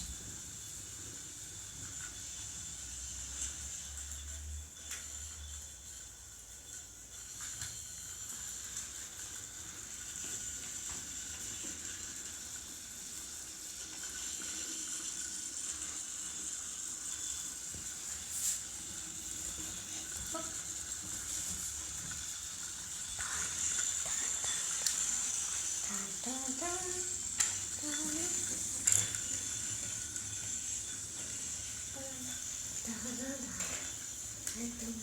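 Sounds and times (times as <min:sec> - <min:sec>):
toy train motors whirring: 0:00.0 - 0:35.0.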